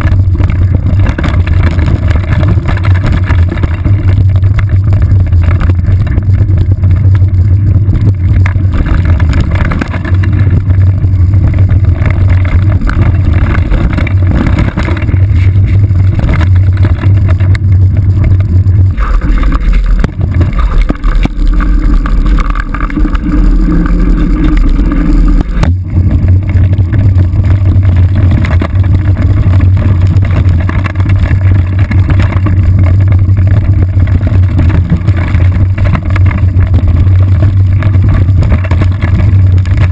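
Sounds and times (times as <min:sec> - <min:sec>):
mountain bike rumbling on dirt trail: 0:00.0 - 0:39.9.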